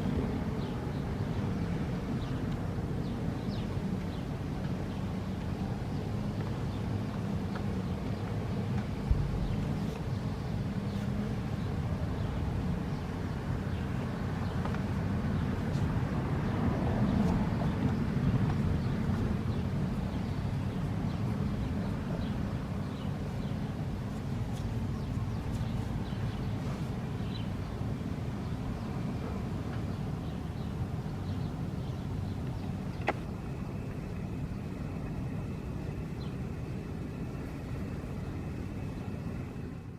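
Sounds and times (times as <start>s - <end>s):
traffic noise: 0.0s - 39.9s.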